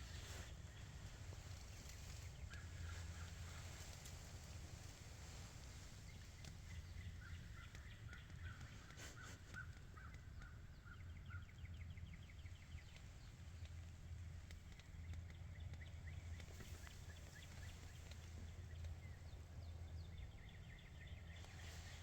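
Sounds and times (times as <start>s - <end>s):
faint bird calls: 0.0s - 22.0s.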